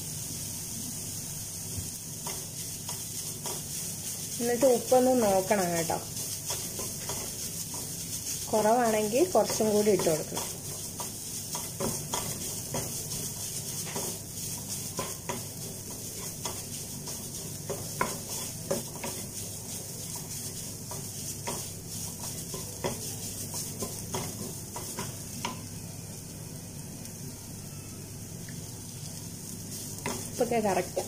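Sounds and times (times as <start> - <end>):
food sizzling in a pan: 0.0 - 31.0
wooden spatula scraping a pan: 1.9 - 25.6, 29.6 - 31.0.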